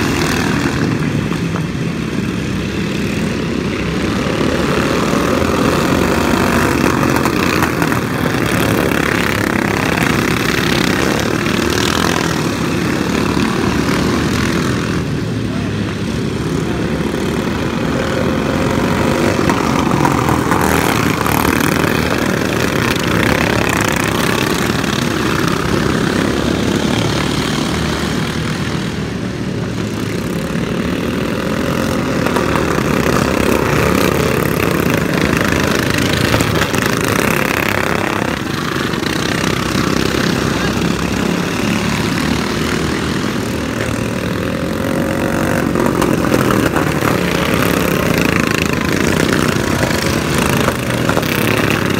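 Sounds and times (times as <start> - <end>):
racing lawn mower engines: 0.0 - 51.9.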